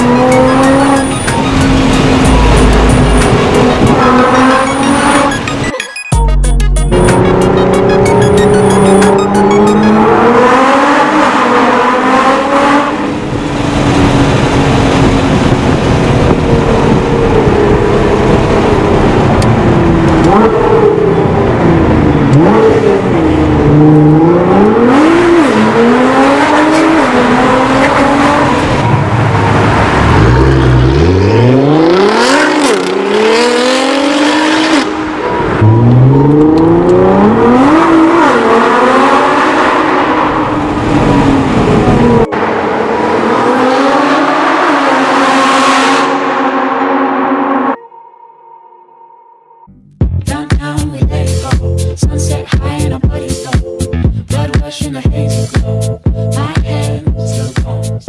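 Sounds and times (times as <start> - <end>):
car engine revving and accelerating: 0.0 - 5.6, 6.9 - 47.8.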